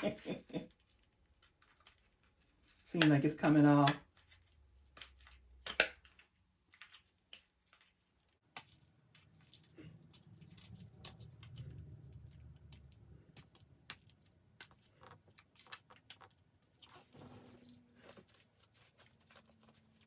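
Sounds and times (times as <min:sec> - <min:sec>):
packaging clicks and rustles: 0:00.8 - 0:20.0.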